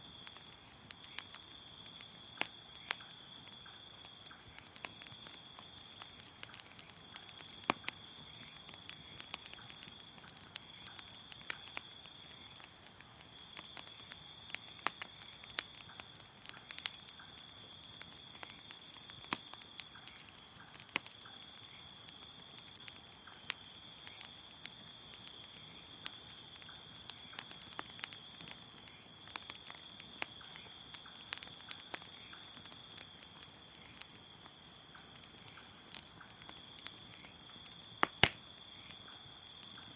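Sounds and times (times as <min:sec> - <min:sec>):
bonfire crackling and popping: 0:00.0 - 0:39.9
crickets chirping: 0:00.0 - 0:39.9.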